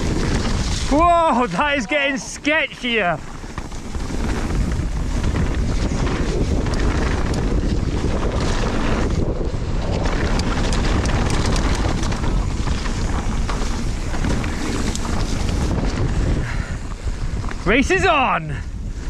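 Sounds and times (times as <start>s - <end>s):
tyre rumble: 0.0s - 17.8s
bike clicks and rattles: 0.0s - 17.9s
wind rushing over microphone: 0.0s - 19.0s.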